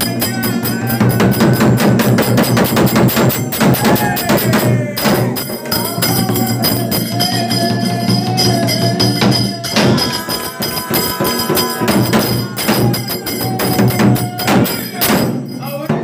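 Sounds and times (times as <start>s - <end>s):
jingling hand percussion: 0.0s - 16.0s
person singing held line: 0.0s - 16.0s
repeated percussion strikes: 0.0s - 16.0s.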